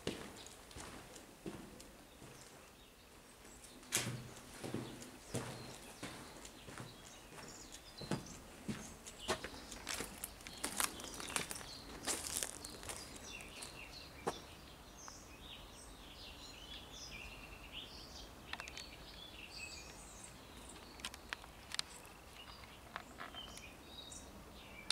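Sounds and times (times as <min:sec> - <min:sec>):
outdoor background noise: 0:00.0 - 0:24.9
songbirds chirping: 0:00.0 - 0:24.9.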